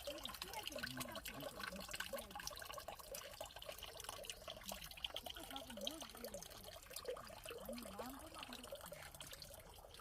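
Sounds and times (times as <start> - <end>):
faint voices: 0.0 - 10.0
water trickling and dripping: 0.0 - 10.0.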